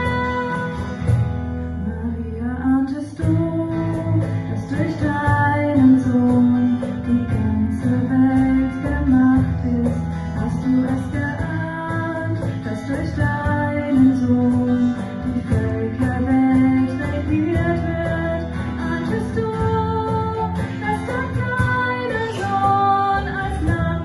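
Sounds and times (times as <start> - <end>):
person singing: 0.0 - 1.1, 1.8 - 24.0
guitar: 0.0 - 24.0.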